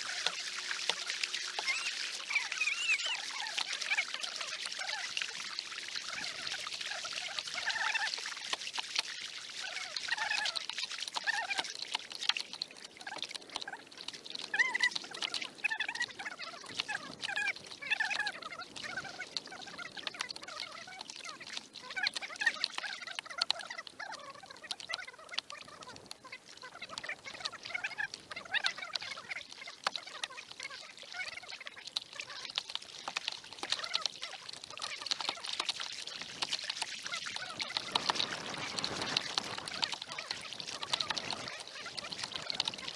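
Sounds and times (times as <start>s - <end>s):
water dripping and trickling: 0.0s - 42.9s.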